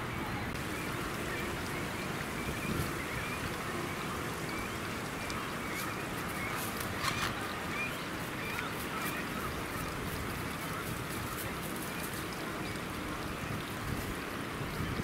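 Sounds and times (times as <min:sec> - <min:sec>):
background hiss and rumble: 0:00.0 - 0:15.0.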